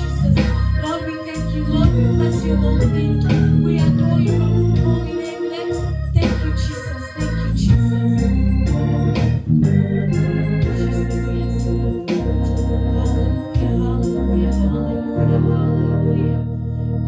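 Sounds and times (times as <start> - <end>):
organ playing held chords: 0.0 - 17.0.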